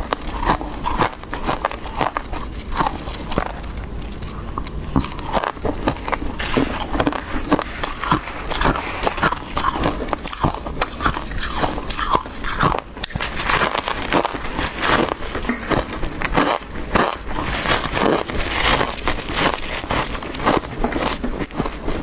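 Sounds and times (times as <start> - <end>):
frost being chewed: 0.0 - 22.0.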